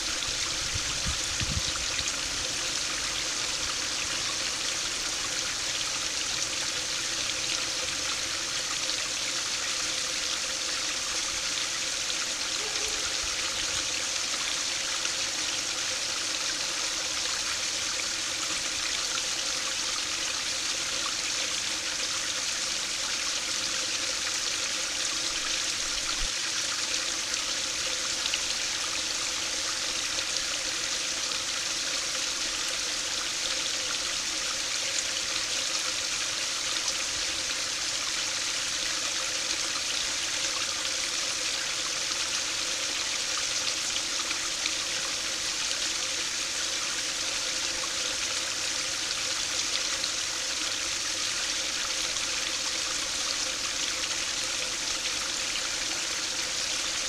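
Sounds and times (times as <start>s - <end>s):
stream splashing into a pool: 0.0s - 57.0s.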